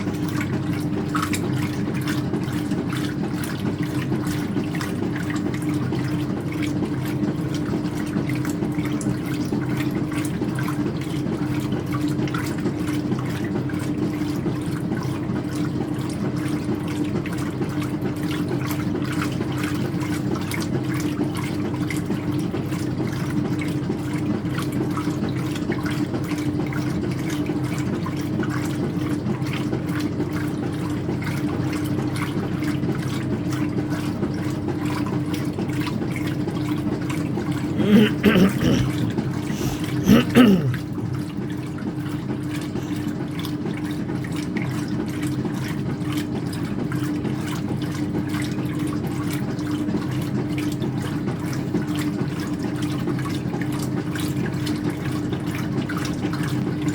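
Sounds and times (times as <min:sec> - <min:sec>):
water sloshing in washer tub: 0:00.0 - 0:37.8, 0:38.9 - 0:56.9
washing machine hum: 0:00.0 - 0:56.9.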